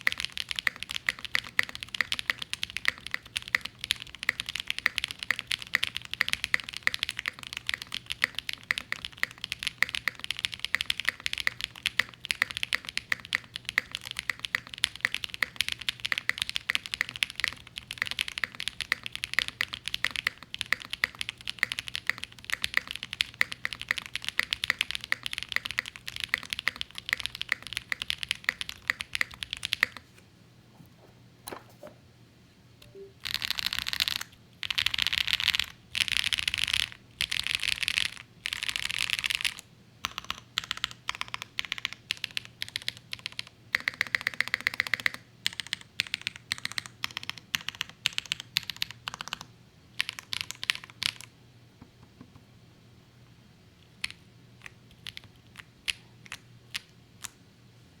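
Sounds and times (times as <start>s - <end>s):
fast mechanical keyboard typing: 0.0s - 30.0s, 33.2s - 51.3s, 53.9s - 57.3s.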